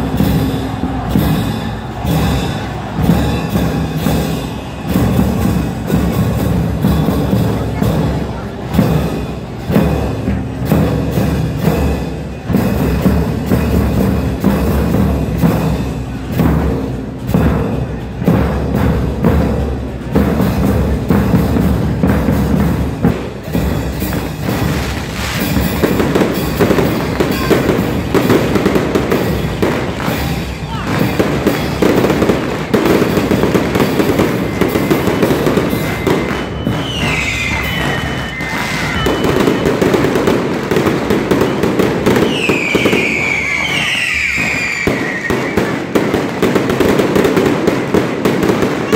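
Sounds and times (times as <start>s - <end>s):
drum band playing: 0.0s - 48.9s
firecrackers crackling: 0.0s - 48.9s.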